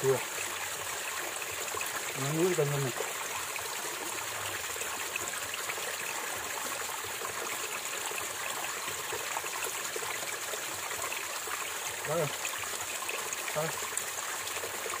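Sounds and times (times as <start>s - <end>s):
forest stream running: 0.0s - 15.0s.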